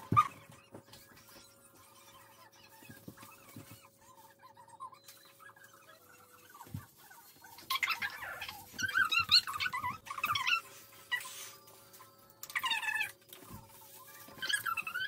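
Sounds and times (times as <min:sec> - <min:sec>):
squeeze bottle sputtering and squeaking: 0:00.0 - 0:15.0.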